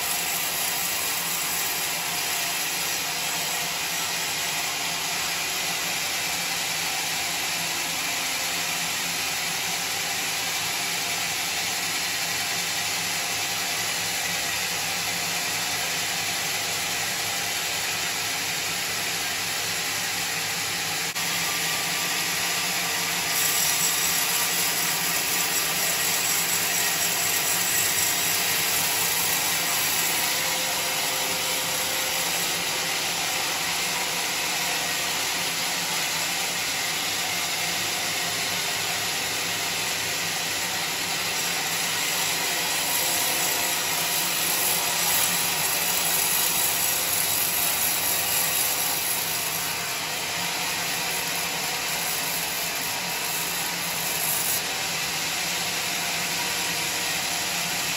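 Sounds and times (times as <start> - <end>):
band saw cutting logs: 0.0 - 57.9.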